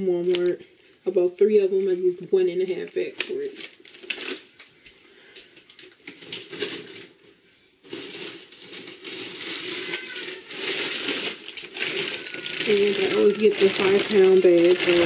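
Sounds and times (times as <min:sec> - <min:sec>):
plastic bag crinkling: 0:00.2 - 0:15.0.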